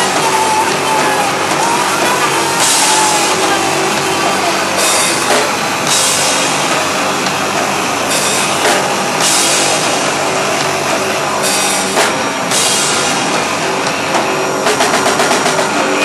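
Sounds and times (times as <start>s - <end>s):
crashing cymbals: 0.0s - 16.0s
live rock band playing: 0.0s - 16.0s
run of drum hits: 0.0s - 16.0s.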